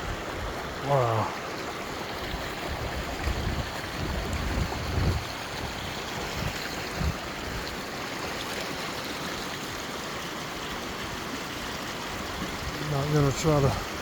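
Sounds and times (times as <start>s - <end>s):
stream water running over rocks: 0.0s - 14.0s.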